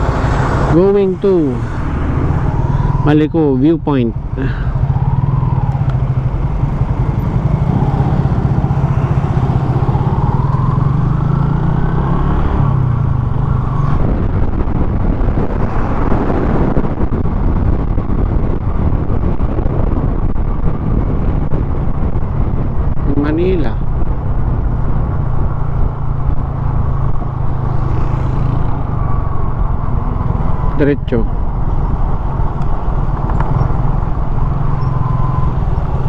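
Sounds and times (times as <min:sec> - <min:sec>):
road noise: 0:00.0 - 0:36.0
vehicle engine: 0:00.0 - 0:36.0.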